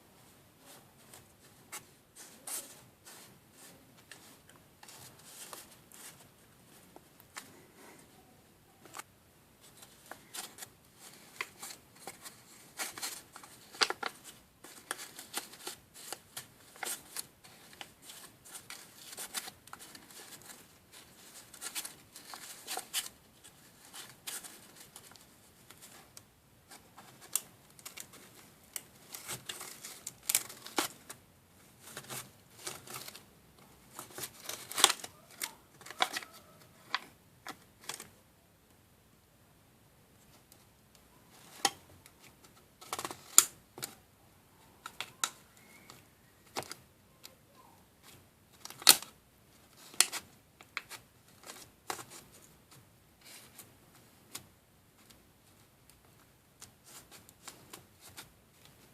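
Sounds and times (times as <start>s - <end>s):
hands handling plastic parts: 0.6s - 38.2s, 40.2s - 44.0s, 44.8s - 58.9s.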